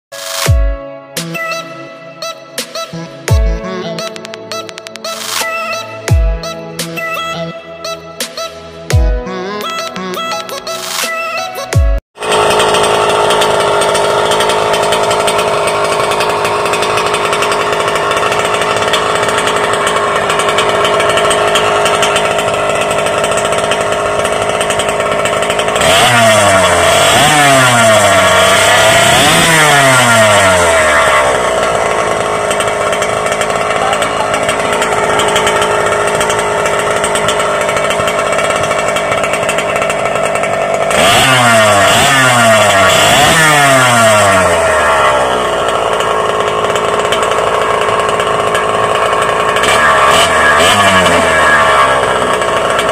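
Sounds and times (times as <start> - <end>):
small two-stroke engine revving: 1.2 - 9.0, 12.2 - 52.9.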